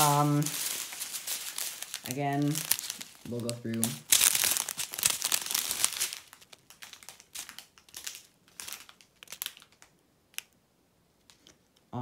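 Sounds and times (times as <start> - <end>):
plastic bags crinkling: 0.0 - 10.6.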